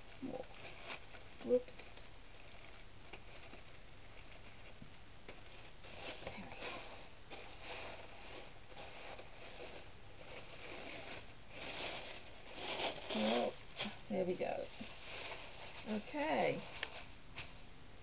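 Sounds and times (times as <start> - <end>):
wrapping paper rustling and crinkling: 0.0 - 17.7.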